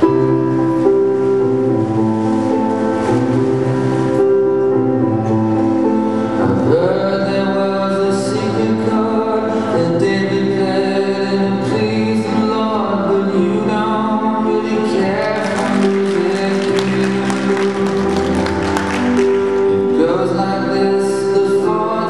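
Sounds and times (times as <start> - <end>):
music with singing: 0.0 - 22.0.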